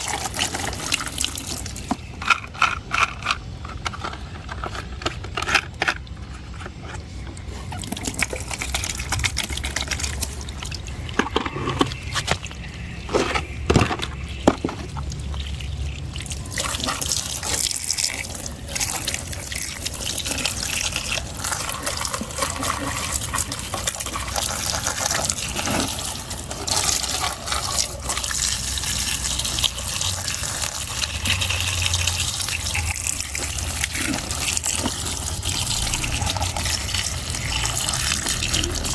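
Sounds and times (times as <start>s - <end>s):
running splashing water: 0.0s - 2.0s, 7.7s - 38.9s.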